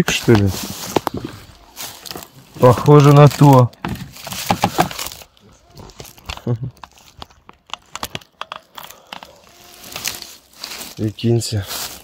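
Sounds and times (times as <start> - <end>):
dry leaves and twigs crackling: 0.0 - 12.0.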